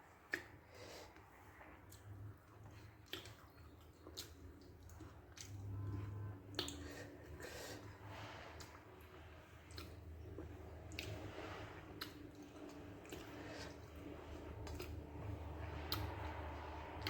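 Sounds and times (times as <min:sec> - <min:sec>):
chewing and lip smacks: 0:00.1 - 0:17.0.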